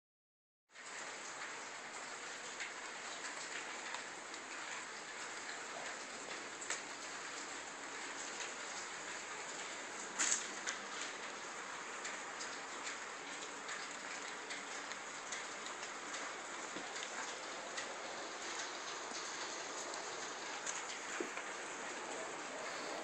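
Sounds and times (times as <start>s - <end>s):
steady hiss: 4.4s - 23.0s.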